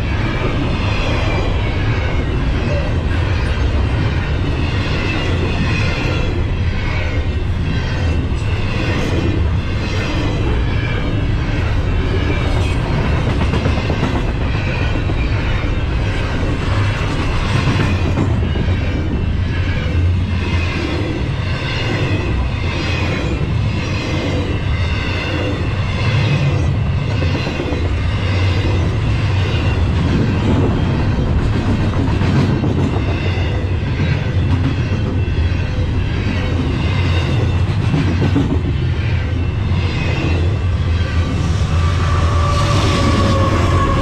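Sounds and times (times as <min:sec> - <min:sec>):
steel wheels clattering on rails: 0:00.0 - 0:24.6, 0:25.2 - 0:44.0
freight train rolling past: 0:00.0 - 0:44.0.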